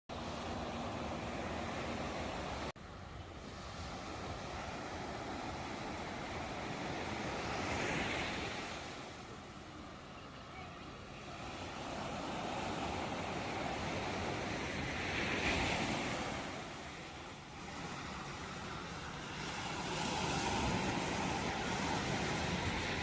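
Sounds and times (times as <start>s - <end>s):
ocean waves washing in: 0.1s - 23.0s.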